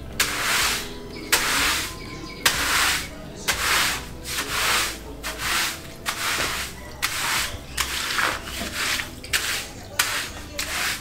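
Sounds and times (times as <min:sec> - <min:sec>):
push broom scrubbing floor: 0:00.0 - 0:11.0.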